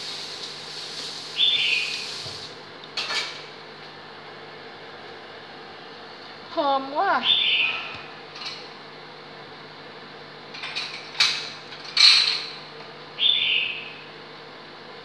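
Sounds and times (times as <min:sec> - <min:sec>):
induction cooktop hum: 0:00.0 - 0:15.0.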